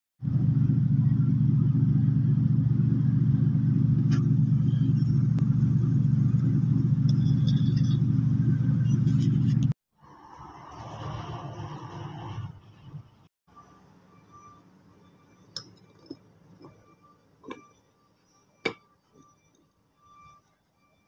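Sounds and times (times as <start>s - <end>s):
engine droning: 0.2s - 21.0s.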